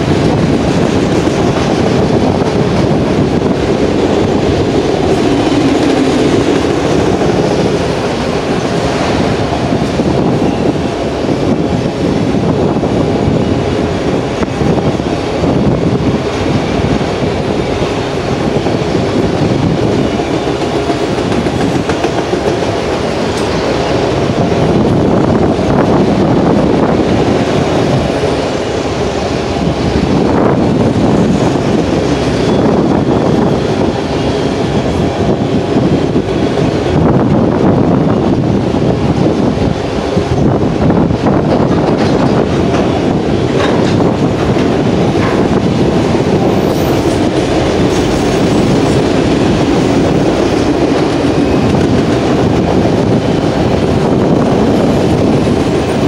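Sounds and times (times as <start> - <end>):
sharp clicks of train wheels: 0.0 - 37.7, 38.3 - 56.0
freight train rumbling past: 0.0 - 56.0.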